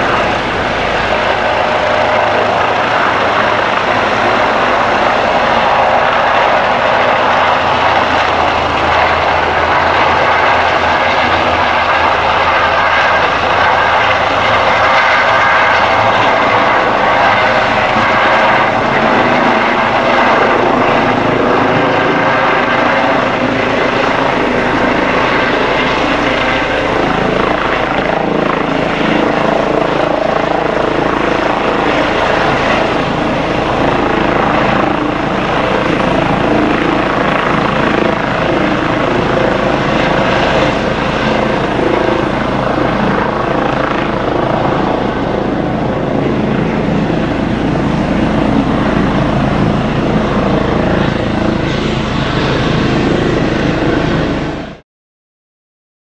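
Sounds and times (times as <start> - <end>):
helicopter rotor noise: 0.0 - 54.8.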